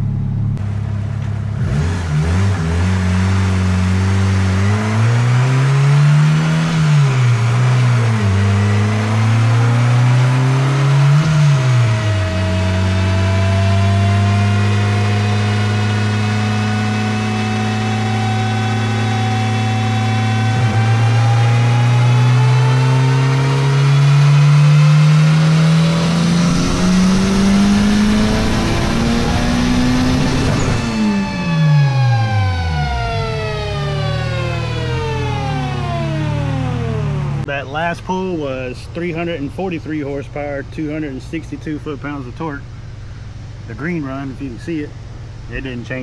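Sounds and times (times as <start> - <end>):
car engine revving: 0.0 - 37.8.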